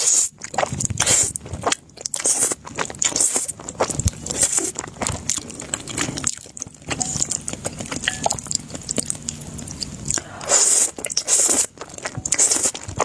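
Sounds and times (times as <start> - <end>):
slurping and chewing noodles: 0.0 - 13.0.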